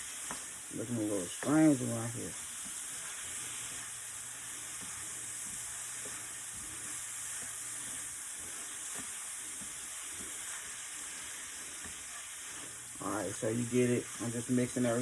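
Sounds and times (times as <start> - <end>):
shrimp sizzling in a hot pan: 0.0 - 15.0.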